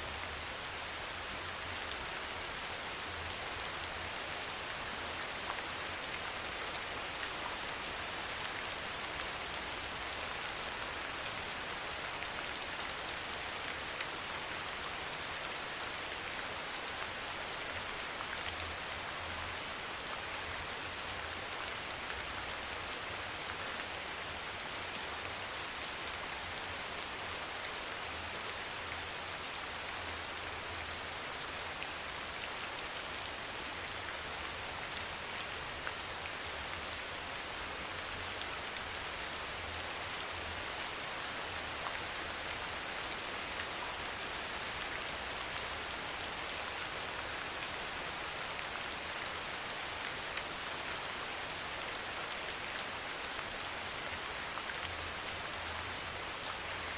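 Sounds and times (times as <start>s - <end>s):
rain falling on a surface: 0.0s - 56.9s.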